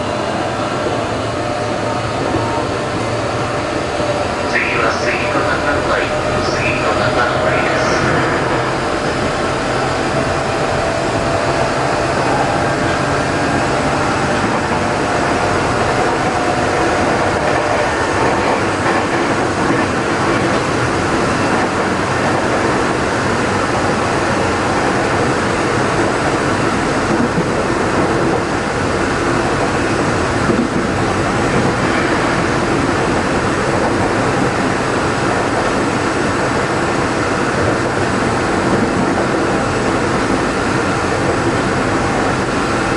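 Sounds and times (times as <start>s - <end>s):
train wheel and motor noise: 0.0s - 42.9s.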